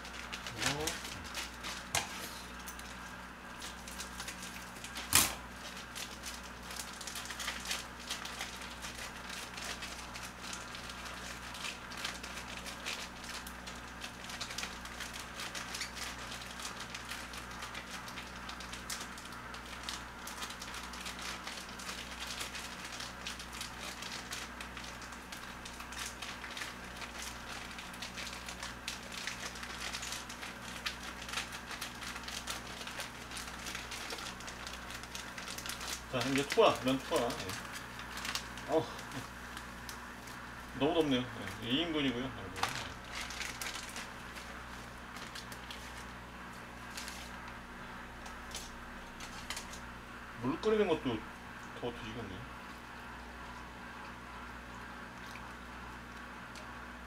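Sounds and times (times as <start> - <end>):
plastic packaging crinkling: 0.0 - 51.2
steady low hum: 0.0 - 57.0.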